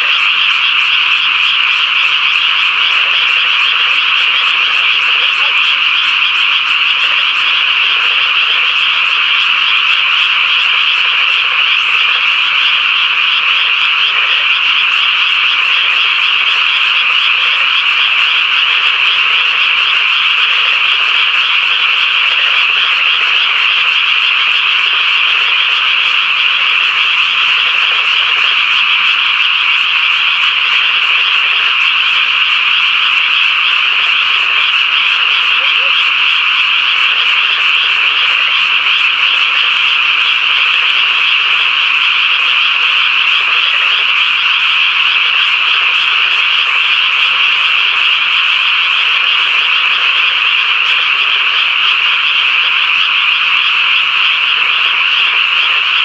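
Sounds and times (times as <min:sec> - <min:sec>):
frogs chorus trilling: 0:00.0 - 0:56.0.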